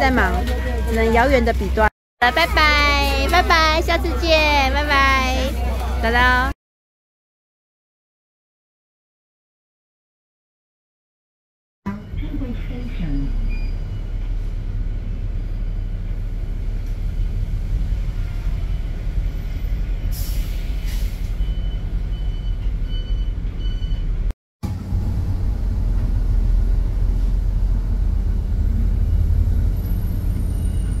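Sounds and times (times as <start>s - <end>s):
vehicle engine rumble: 0.0s - 6.5s, 11.9s - 31.0s.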